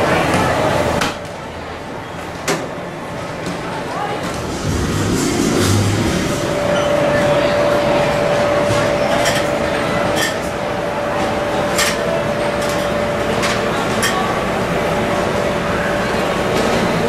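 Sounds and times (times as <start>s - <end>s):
mechanical hum and rush: 0.0s - 17.0s.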